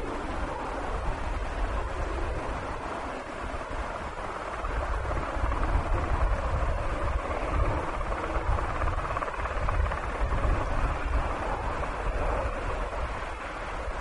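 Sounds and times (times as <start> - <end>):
jet engine roar: 0.0 - 14.0
wind buffeting microphone: 0.0 - 14.0.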